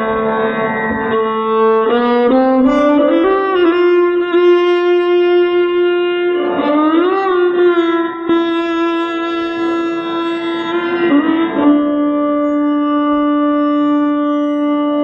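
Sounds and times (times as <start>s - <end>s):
solo violin playing slowly: 0.0s - 15.0s.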